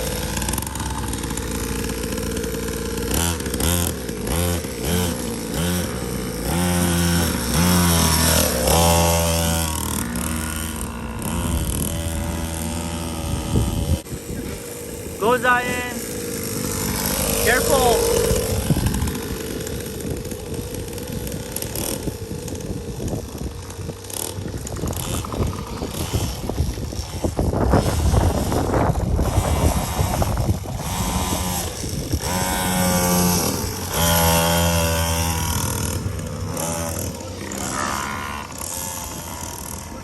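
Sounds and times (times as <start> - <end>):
dirt bike engines buzzing: 0.0 - 40.0.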